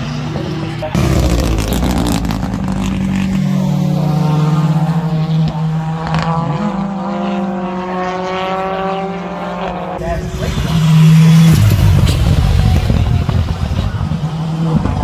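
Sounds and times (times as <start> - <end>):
rally car engine running hard: 0.0 - 15.0.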